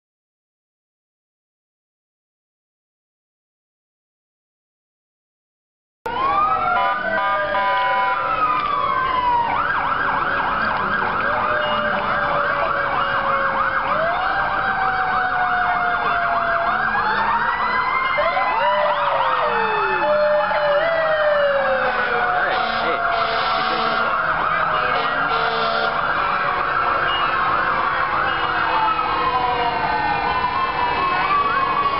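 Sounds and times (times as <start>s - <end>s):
fire truck sirens wailing: 6.1s - 31.9s
rapid siren yelp: 6.1s - 31.9s.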